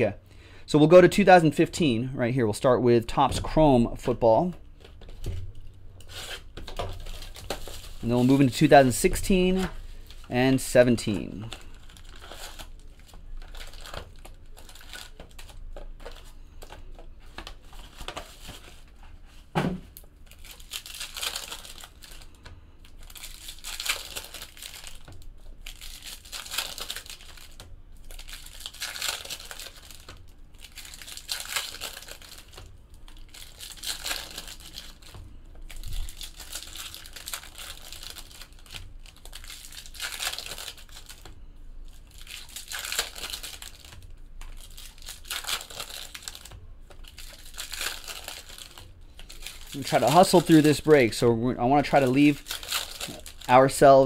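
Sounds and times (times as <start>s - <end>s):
foil wrappers crinkling and tearing: 4.8s - 19.1s, 20.0s - 51.2s, 51.8s - 54.0s.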